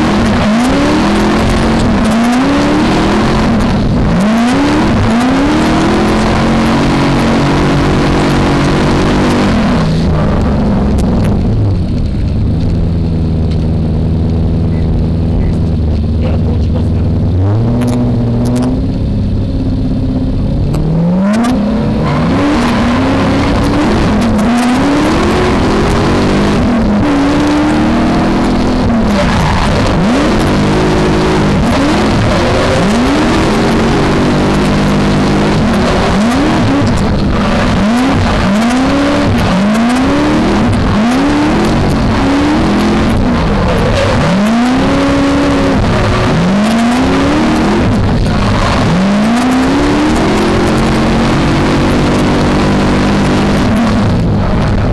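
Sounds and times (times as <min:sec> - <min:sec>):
car engine revving: 0:00.0 - 0:54.9.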